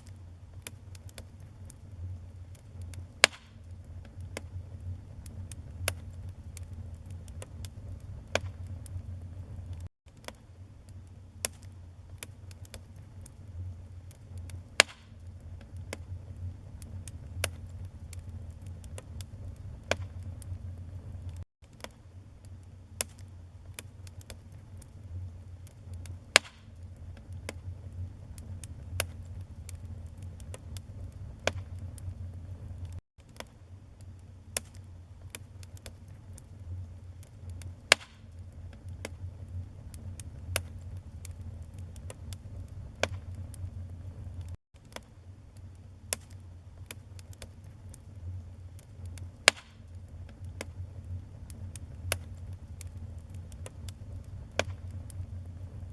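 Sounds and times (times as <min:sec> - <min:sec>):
low rumble of flame: 0:00.0 - 0:55.9
wood crackling and popping: 0:00.0 - 0:55.9.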